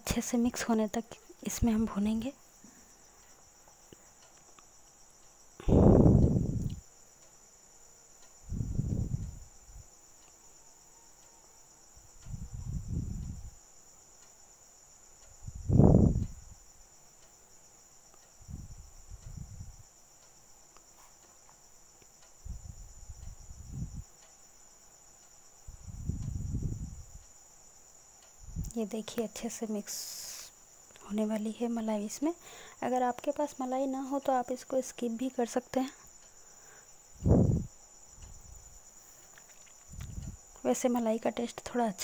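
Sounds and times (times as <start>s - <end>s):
steady high-pitched whine: 0.0s - 42.0s.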